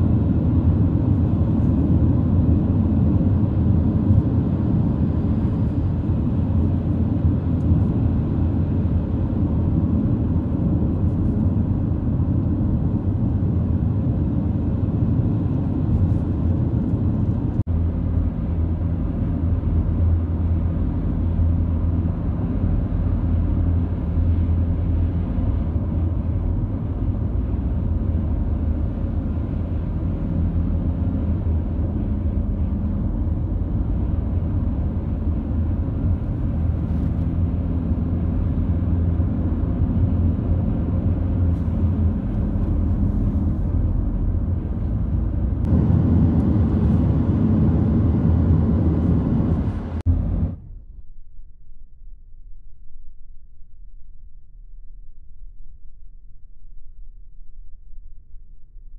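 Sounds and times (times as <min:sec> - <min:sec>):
car driving heard from inside: 0:00.0 - 0:58.9.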